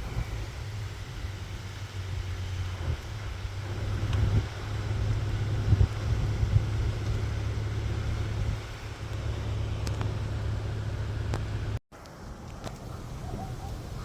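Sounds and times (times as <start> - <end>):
blizzard wind buffeting microphone: 0.0 - 11.8.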